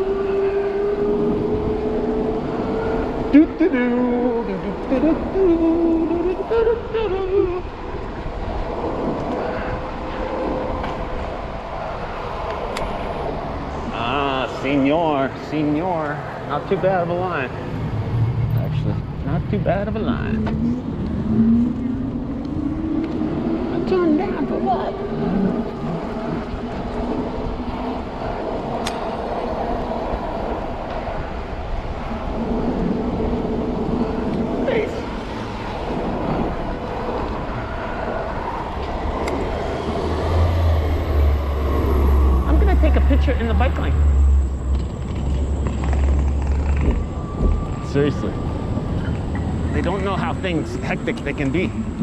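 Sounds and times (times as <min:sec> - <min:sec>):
vehicle and street rumble: 0:00.0 - 0:52.0
wind: 0:00.0 - 0:52.0.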